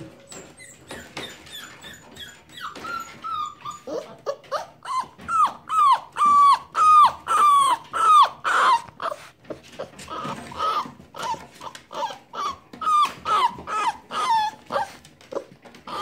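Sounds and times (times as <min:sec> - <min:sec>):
puppy whining: 0:00.0 - 0:16.0.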